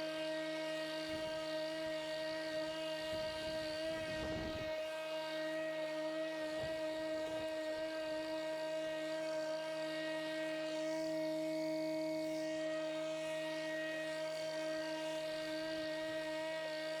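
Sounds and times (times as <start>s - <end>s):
electric lawnmower whining: 0.0s - 17.0s.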